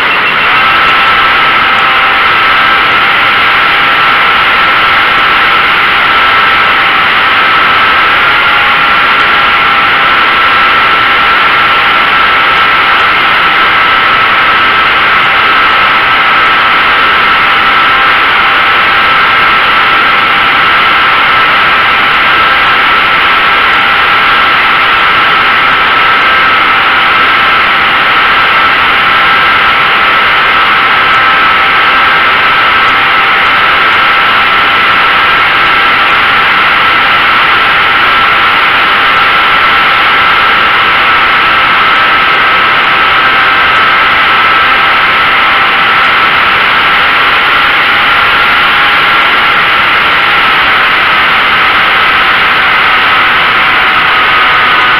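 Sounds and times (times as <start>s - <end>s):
model airplane motor and propeller: 0.0s - 54.9s.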